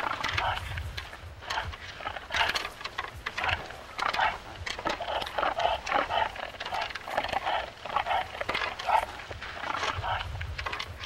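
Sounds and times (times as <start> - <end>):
animal grunts: 0.0 - 0.8, 1.4 - 11.0
antlers clacking together: 0.0 - 11.0.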